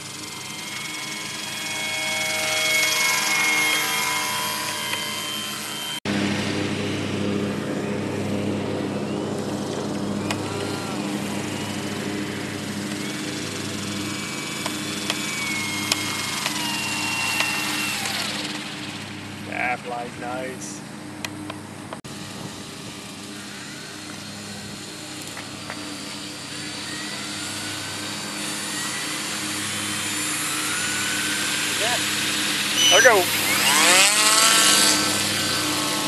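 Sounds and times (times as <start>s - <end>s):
low engine drone: 0.0s - 36.0s
model aircraft motor whine: 0.0s - 36.0s.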